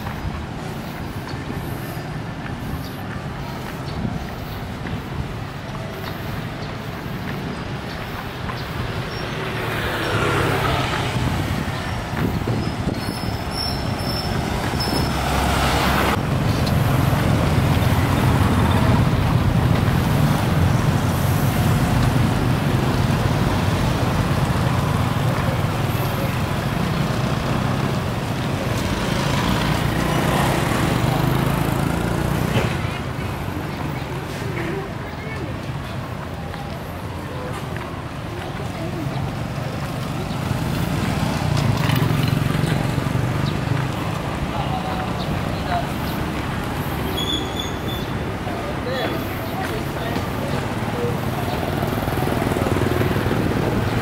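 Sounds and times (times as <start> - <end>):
traffic noise: 0.0 - 54.0.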